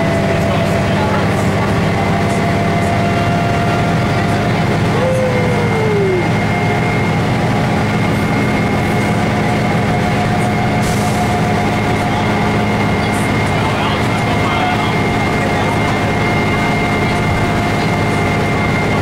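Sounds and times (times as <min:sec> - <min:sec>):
bus engine drone: 0:00.0 - 0:19.0
road noise: 0:00.0 - 0:19.0
thin steady whines: 0:00.0 - 0:19.0.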